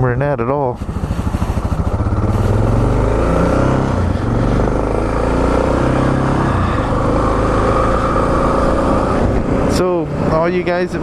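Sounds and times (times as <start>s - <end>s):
single-cylinder engine running: 0.0s - 11.0s.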